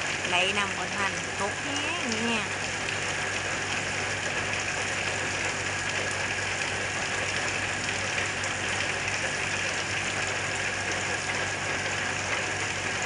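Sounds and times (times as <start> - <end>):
heavy rain downpour: 0.0 - 13.0.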